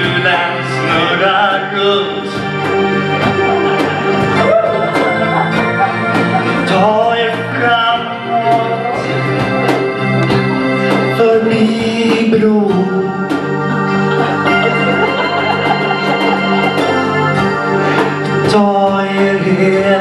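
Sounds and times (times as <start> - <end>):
person singing pop song: 0.0 - 20.0
steady drum beat: 0.0 - 20.0
sustained keyboard chords: 0.0 - 20.0.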